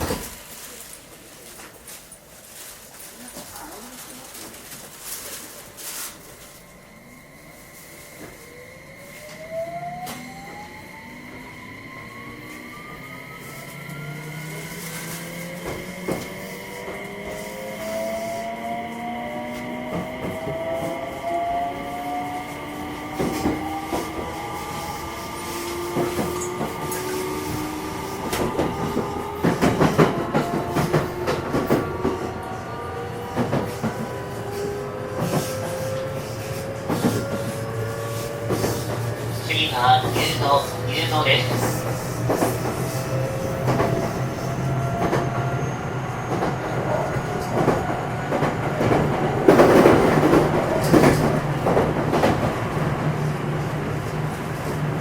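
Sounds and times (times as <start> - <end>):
train motor humming: 5.5 - 55.0.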